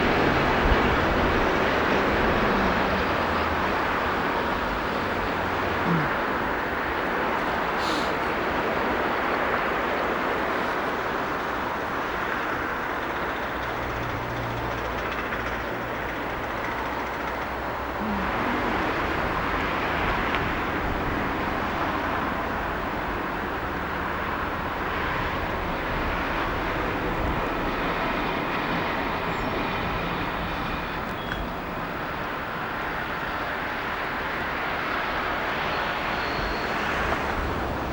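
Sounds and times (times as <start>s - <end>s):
diesel train rushing noise: 0.0s - 37.9s
low engine hum: 0.0s - 37.9s.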